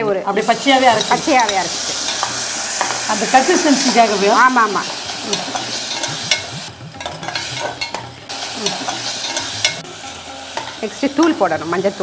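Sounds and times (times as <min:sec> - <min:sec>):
food sizzling: 0:00.0 - 0:12.0.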